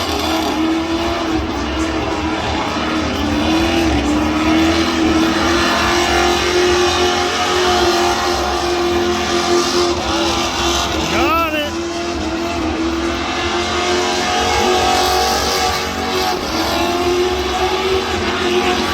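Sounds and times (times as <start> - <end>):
car engine at high revs: 0.0 - 18.9.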